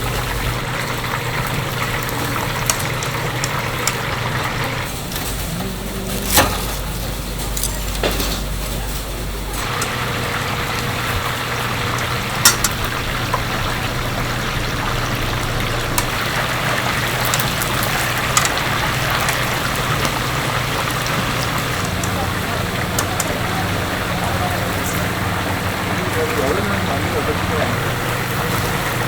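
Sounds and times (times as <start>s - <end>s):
chicken deep-frying in oil: 0.0s - 29.0s
low machine hum: 0.0s - 29.0s.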